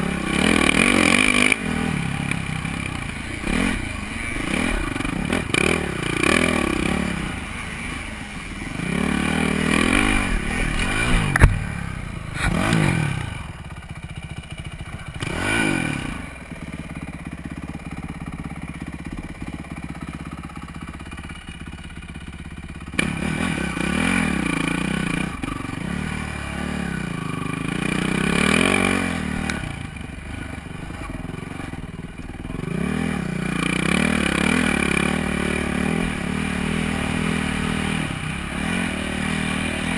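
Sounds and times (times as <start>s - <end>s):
dirt bike engine revving: 0.0s - 20.1s, 22.8s - 39.9s.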